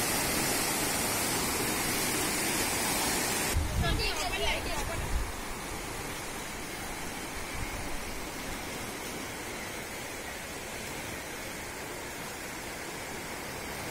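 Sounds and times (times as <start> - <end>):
floodwater rushing: 0.0 - 13.9.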